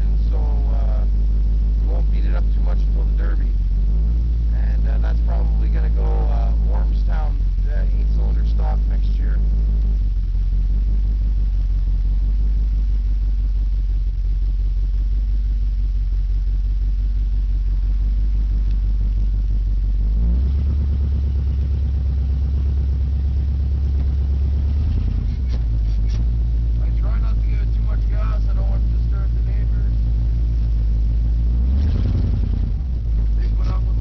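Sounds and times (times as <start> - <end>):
car engine open-exhaust rumble: 0.0 - 34.0.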